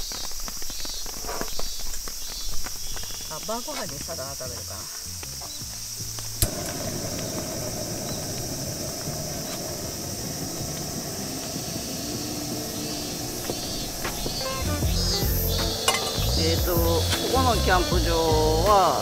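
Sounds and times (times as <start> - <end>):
gas stove burner hissing: 3.3 - 19.0.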